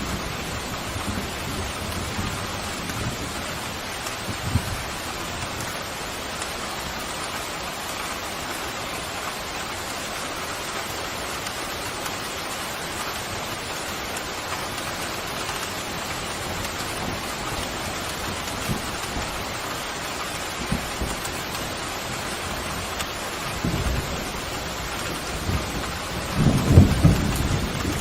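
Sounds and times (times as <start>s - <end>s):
pouring rain: 0.0s - 28.0s.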